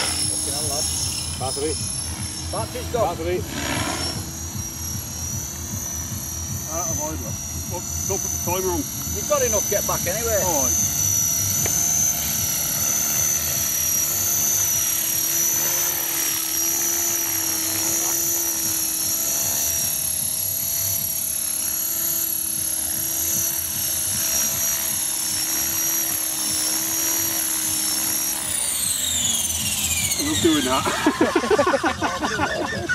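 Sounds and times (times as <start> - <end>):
model helicopter whine: 0.0 - 32.9.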